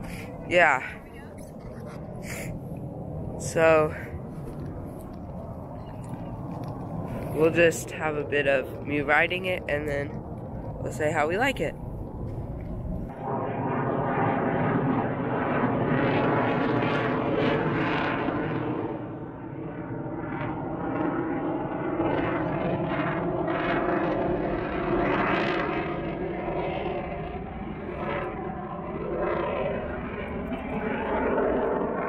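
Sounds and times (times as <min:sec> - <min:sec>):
jet aircraft flying over: 0:00.0 - 0:32.0.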